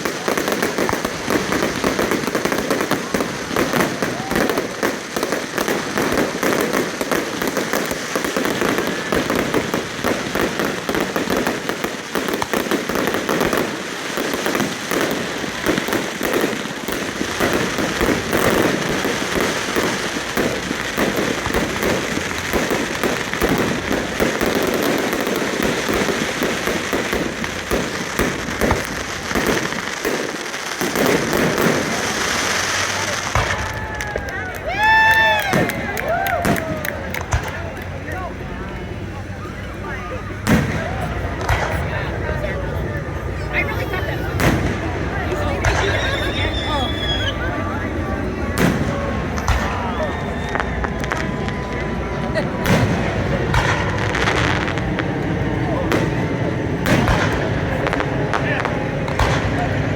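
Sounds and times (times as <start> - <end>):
fireworks cracking and crackling: 0.0 - 59.9.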